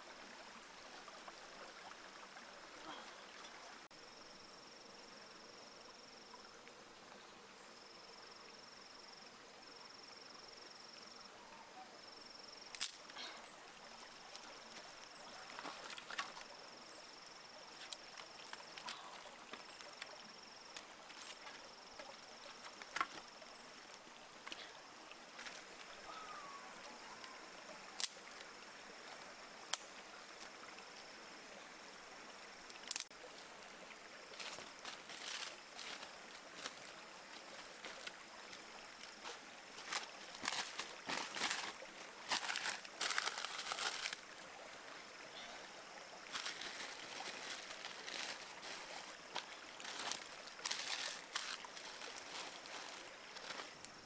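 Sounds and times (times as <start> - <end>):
faint stream: 0.0 - 54.0.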